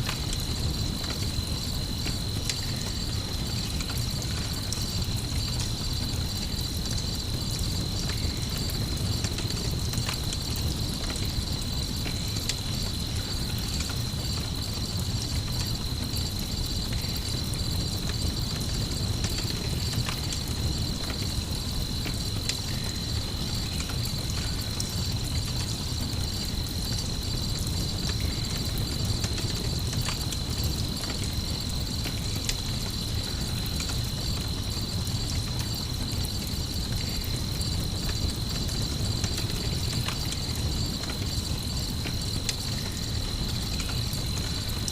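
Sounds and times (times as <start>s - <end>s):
campfire crackling: 0.0s - 44.9s
crickets trilling: 0.0s - 44.9s.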